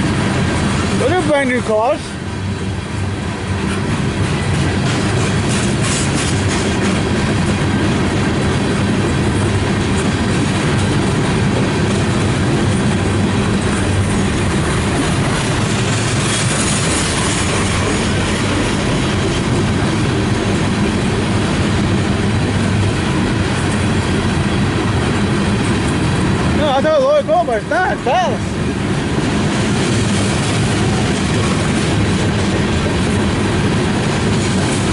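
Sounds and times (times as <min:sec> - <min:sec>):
freight train rumbling past: 0:00.0 - 0:34.9
wheels clickety-clack over rail: 0:00.0 - 0:34.9.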